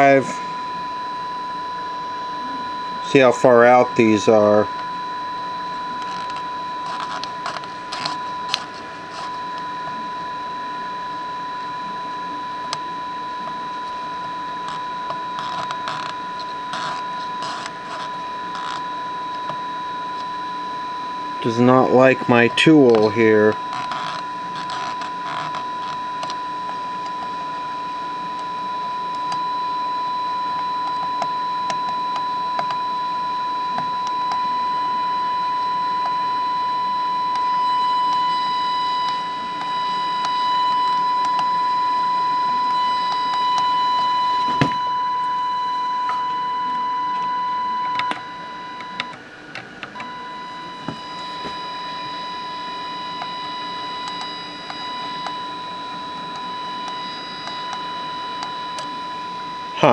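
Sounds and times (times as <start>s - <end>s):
steady test tone: 0.0s - 59.9s.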